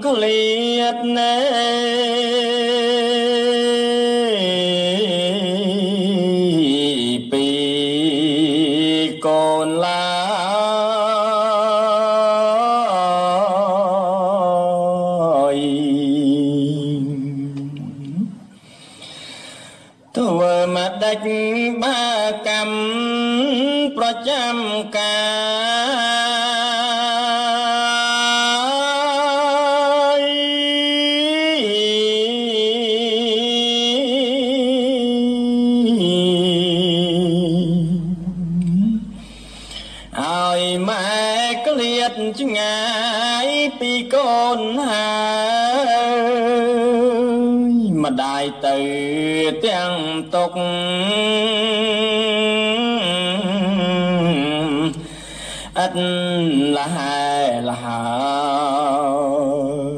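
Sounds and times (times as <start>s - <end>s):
man chanting with vibrato: 0.0s - 18.6s, 19.8s - 39.4s, 40.0s - 59.9s.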